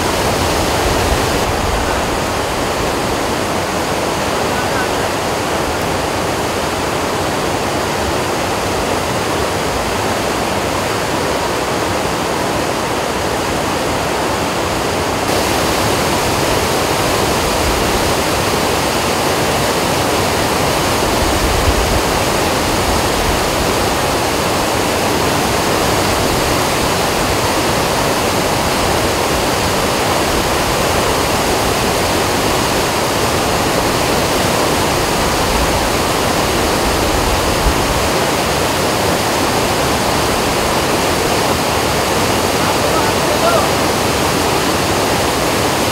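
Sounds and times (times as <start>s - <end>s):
flooded river rushing: 0.0s - 45.9s.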